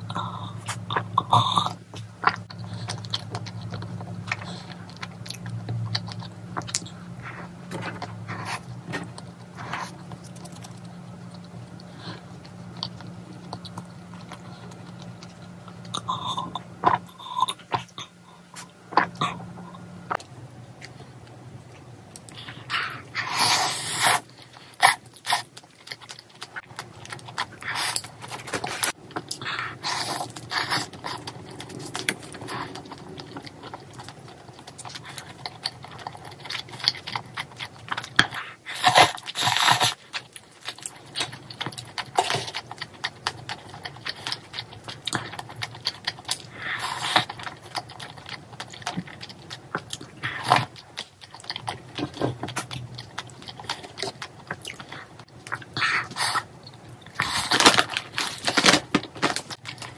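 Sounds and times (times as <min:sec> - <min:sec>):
close-miked chewing: 0:00.0 - 0:59.9.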